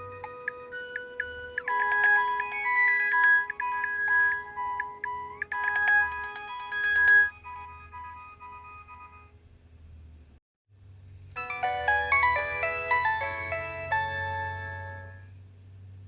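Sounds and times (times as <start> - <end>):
mobile phone ringtone: 0.0 - 9.3, 11.4 - 15.2.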